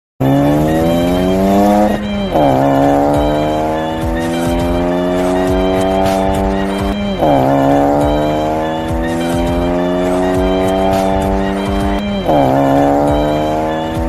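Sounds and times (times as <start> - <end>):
motorcycle engine accelerating: 0.2 - 14.0.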